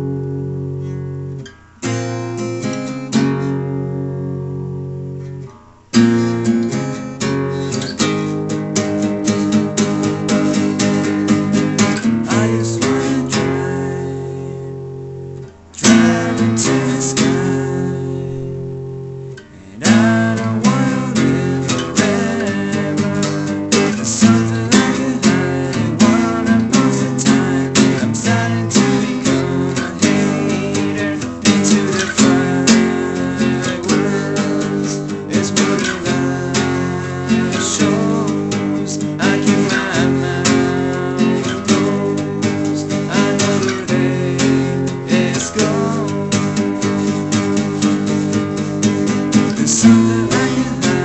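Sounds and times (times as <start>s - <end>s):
acoustic guitar strumming: 0.0s - 51.0s.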